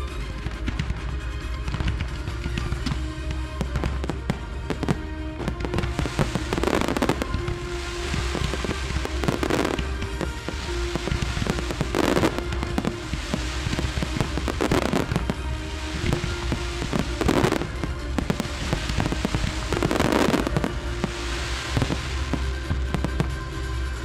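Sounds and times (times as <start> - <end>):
fireworks bangs and crackles: 0.0 - 24.0
music soundtrack: 0.0 - 24.0.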